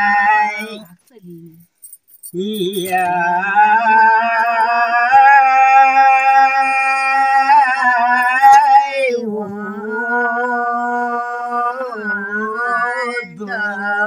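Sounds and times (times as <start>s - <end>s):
man and woman singing: 0.0s - 1.0s, 2.3s - 14.0s.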